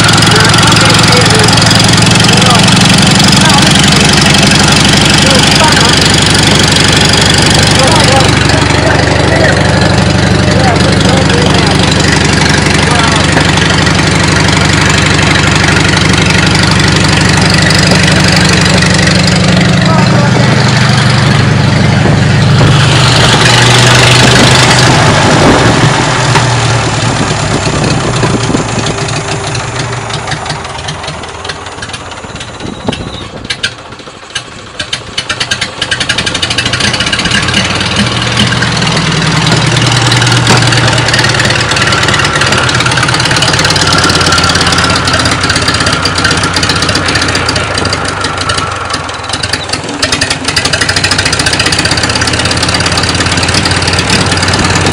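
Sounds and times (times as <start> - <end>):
small car engine running: 0.0 - 54.9.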